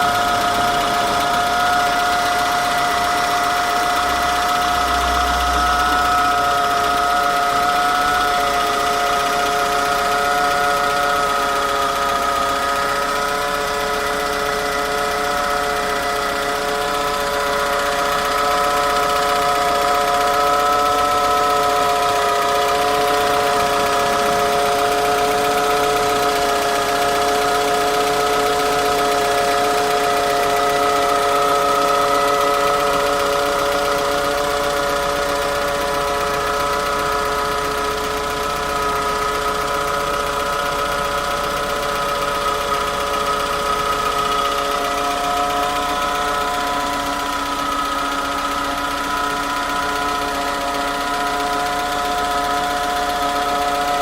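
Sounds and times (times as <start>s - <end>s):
car engine idling: 0.0s - 54.0s
power steering pump whine: 0.0s - 54.0s.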